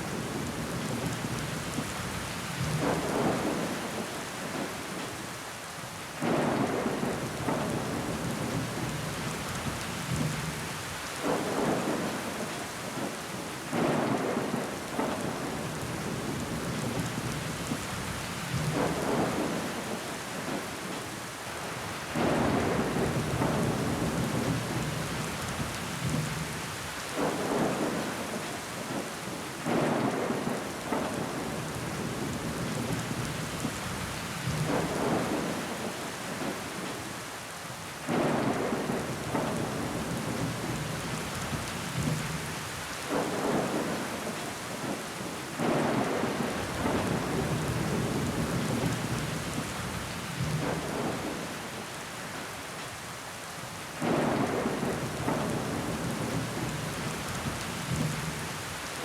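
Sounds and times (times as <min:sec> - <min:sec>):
rain pattering on window glass: 0:06.2 - 0:37.2, 0:38.1 - 0:52.0, 0:54.0 - 0:59.0.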